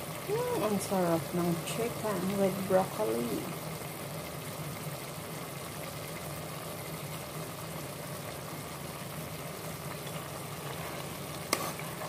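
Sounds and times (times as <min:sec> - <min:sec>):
pot of food simmering: 0:00.0 - 0:12.0.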